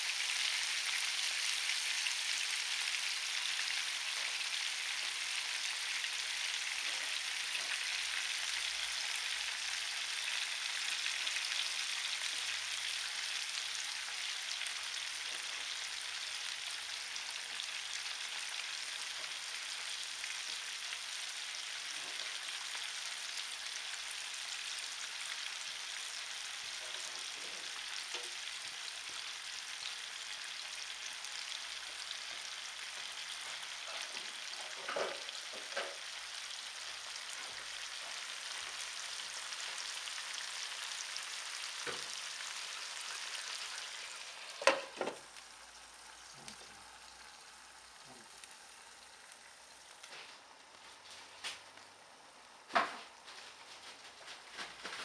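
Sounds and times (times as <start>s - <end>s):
sausages sizzling in frying pan: 0.0s - 55.0s.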